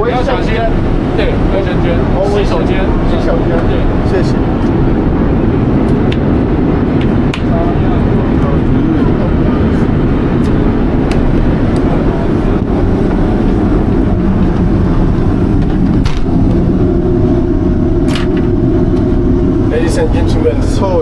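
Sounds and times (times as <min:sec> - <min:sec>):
airliner cabin drone: 0:00.0 - 0:21.0
steady hum: 0:00.0 - 0:21.0.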